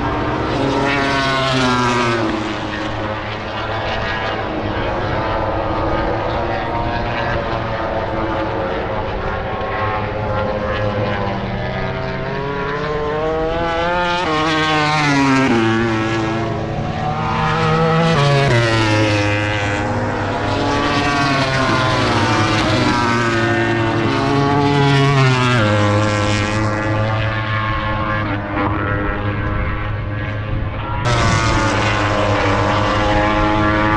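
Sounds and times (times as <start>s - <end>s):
racing motorcycle engines revving: 0.0s - 33.9s.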